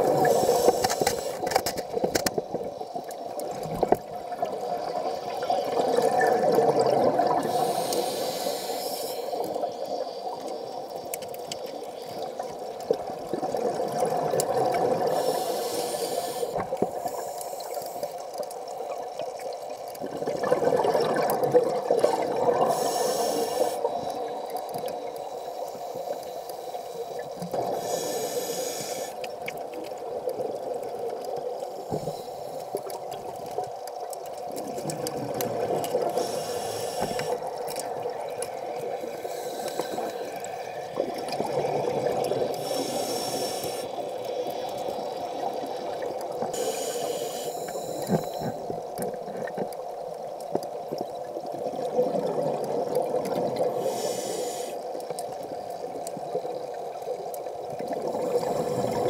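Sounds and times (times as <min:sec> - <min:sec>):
exhaled bubbles underwater: 0:00.0 - 0:00.8, 0:02.4 - 0:08.4, 0:09.4 - 0:17.3, 0:18.4 - 0:25.4, 0:32.8 - 0:59.0.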